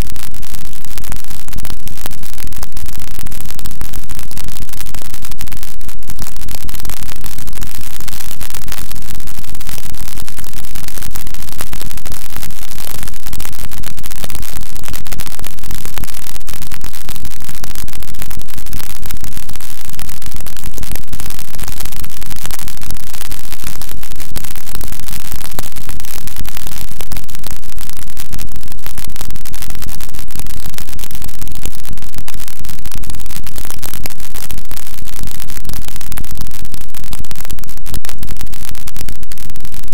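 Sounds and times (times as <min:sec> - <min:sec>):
harsh noise music static: 0:00.0 - 0:39.9.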